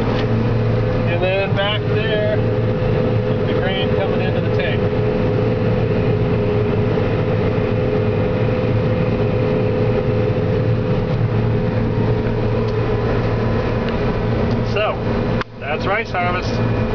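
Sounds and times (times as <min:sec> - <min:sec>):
combine harvester drone: 0:00.0 - 0:16.9.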